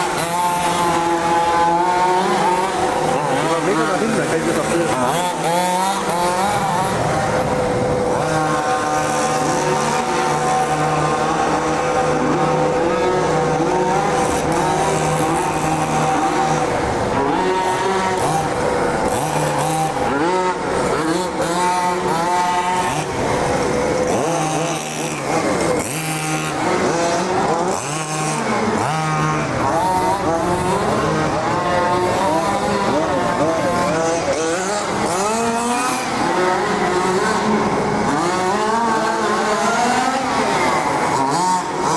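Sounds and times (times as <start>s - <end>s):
two-stroke engine revving: 0.0s - 41.9s
two-stroke engine steady high pitch: 0.0s - 41.9s.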